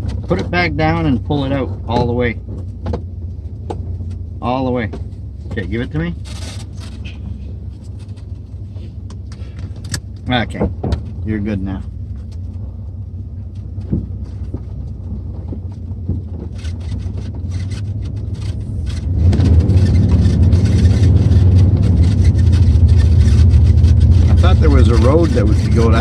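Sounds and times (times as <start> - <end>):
light rattles and clicks: 0.0 - 12.7, 13.4 - 26.0
road noise: 0.0 - 26.0
truck engine rumble: 0.0 - 26.0.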